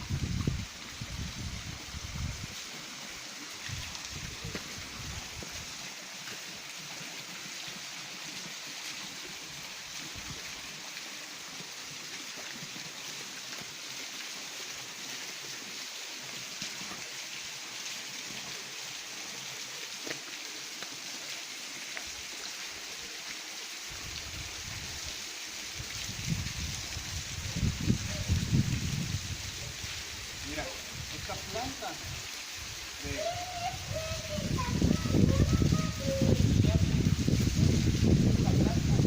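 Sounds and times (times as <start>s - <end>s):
stream water rushing: 0.0s - 39.0s.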